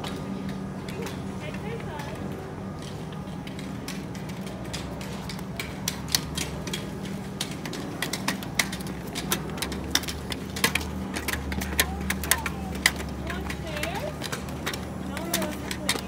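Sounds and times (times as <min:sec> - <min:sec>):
footsteps on concrete stairs: 0:00.0 - 0:16.0
steady low hum: 0:00.0 - 0:16.0.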